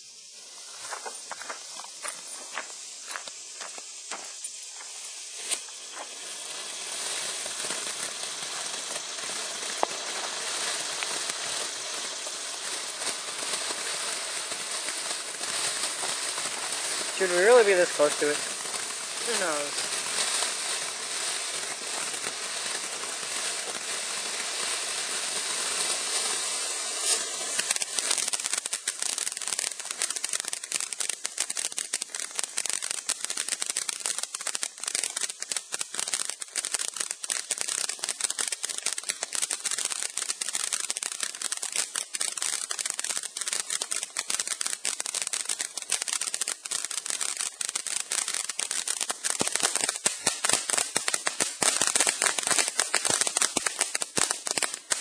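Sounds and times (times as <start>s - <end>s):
firework crackling pops: 0.0s - 55.0s
firework hissing: 0.0s - 55.0s.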